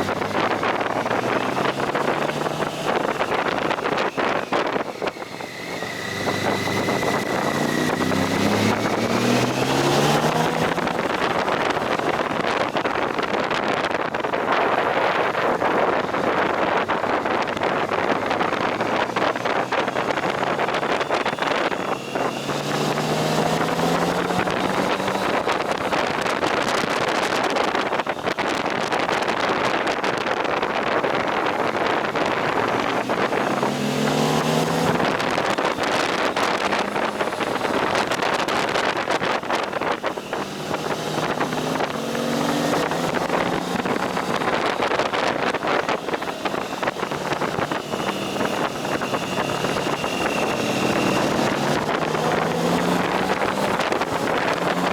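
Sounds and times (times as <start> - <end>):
motorcycle engine at speed: 0.0 - 54.9
road noise: 0.0 - 54.9
wind buffeting on microphone: 0.0 - 54.9.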